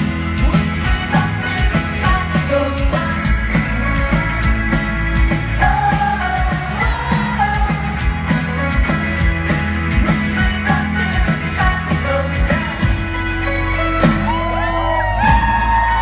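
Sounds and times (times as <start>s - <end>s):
drums: 0.0s - 16.0s
guitars: 0.0s - 16.0s
sung vocals: 0.0s - 16.0s.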